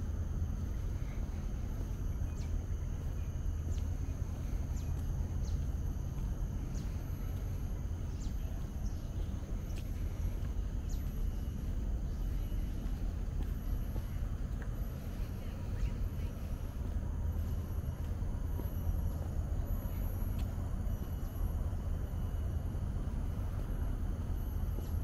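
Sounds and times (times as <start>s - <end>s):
steady low rumble: 0.0s - 25.0s
thin high whine: 0.0s - 25.0s.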